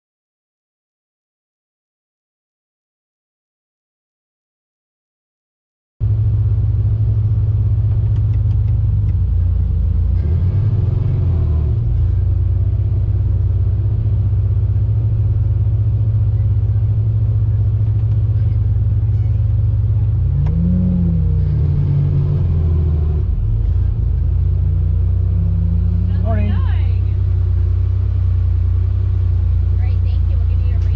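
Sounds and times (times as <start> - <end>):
car rumbling: 6.0 - 30.9.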